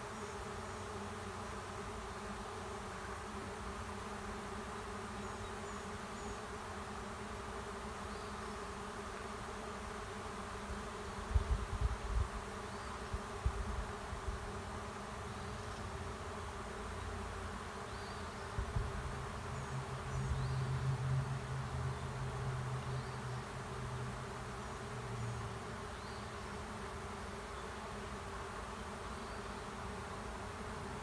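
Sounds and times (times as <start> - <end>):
bee swarm buzzing: 0.0 - 31.0.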